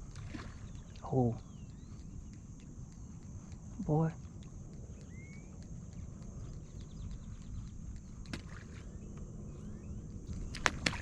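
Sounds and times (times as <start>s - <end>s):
small ticks: 0.0s - 11.0s
water and wind noise: 0.0s - 11.0s
faint chirps: 0.4s - 10.6s.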